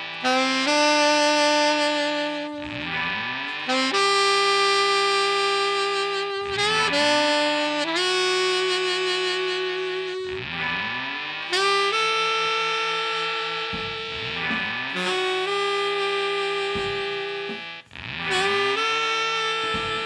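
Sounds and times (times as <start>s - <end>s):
saxophone long notes: 0.0s - 20.0s.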